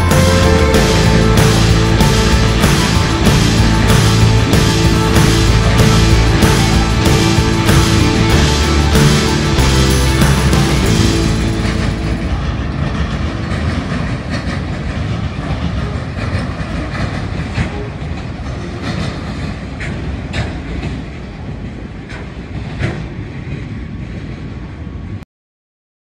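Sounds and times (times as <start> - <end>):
wheels clicking over rails: 0.0 - 24.2
train rolling past: 0.0 - 25.2.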